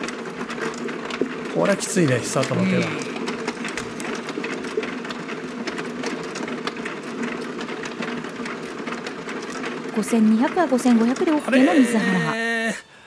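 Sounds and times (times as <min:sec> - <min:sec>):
mahjong tiles rattling in shuffler: 0:00.0 - 0:12.4.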